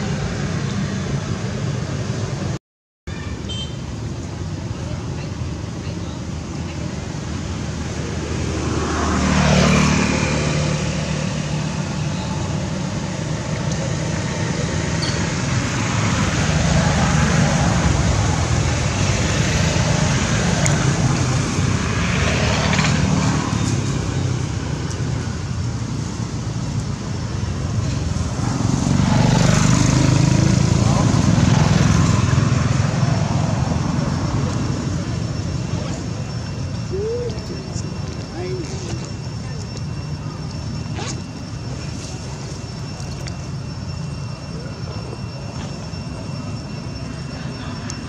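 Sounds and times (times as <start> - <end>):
road traffic noise: 0.0 - 48.0
vehicles passing by: 0.0 - 48.0.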